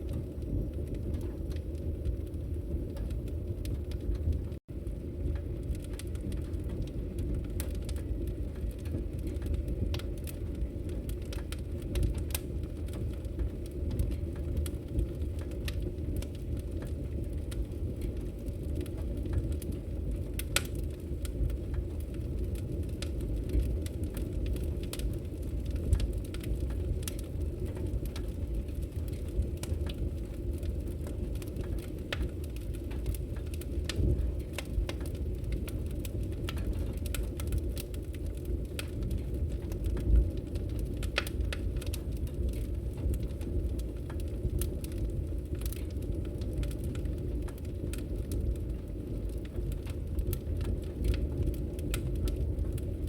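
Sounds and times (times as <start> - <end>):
fire crackles and pops: 0.0 - 53.0
fireplace fire rumbling: 0.0 - 53.0.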